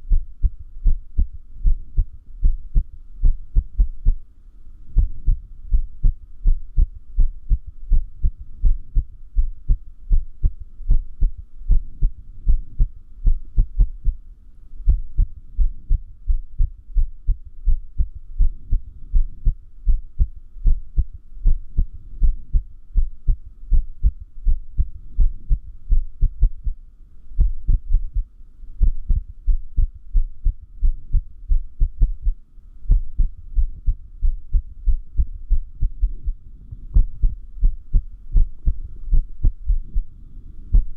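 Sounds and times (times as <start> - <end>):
irregular heartbeat thumps: 0.0 - 4.2, 4.9 - 14.2, 14.8 - 26.8, 27.4 - 40.1, 40.7 - 40.9.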